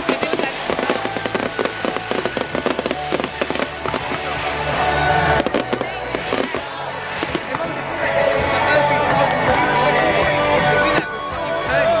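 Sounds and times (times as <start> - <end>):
fireworks crackling and banging: 0.0 - 9.8
pop music with bass line: 0.0 - 12.0.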